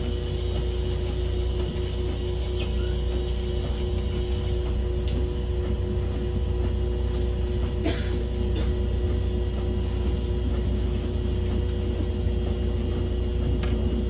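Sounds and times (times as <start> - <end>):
electric train rumble and hum: 0.0 - 14.0.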